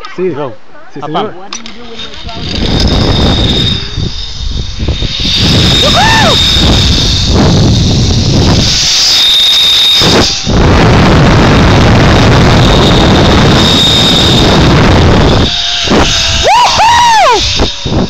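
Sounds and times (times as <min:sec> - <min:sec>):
wind buffeting microphone: 0:01.8 - 0:18.0
zip line pulleys whining: 0:01.8 - 0:18.0.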